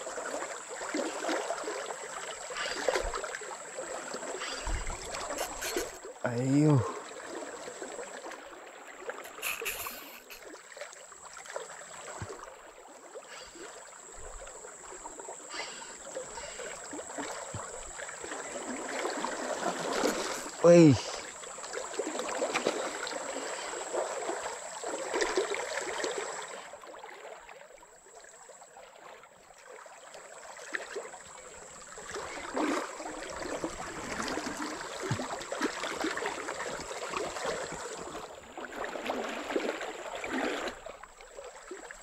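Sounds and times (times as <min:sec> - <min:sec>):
rushing river water: 0:00.0 - 0:42.0.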